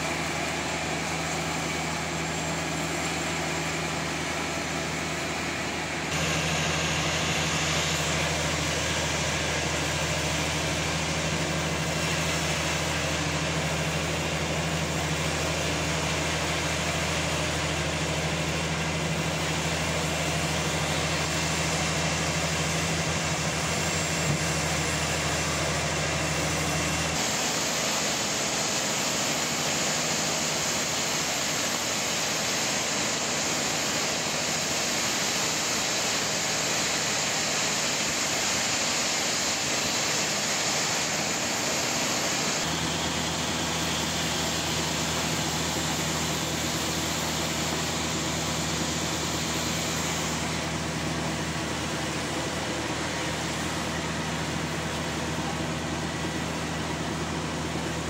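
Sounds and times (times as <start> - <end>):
saw hiss: 0.0 - 58.0
sawmill low hum: 0.0 - 58.0.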